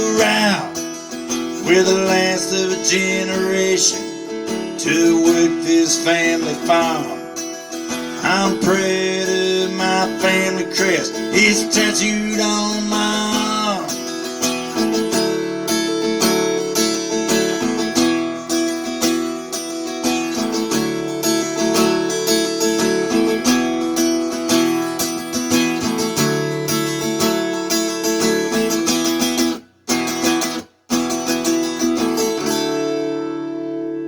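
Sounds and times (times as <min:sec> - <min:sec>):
acoustic guitar picked and strummed: 0:00.0 - 0:34.0.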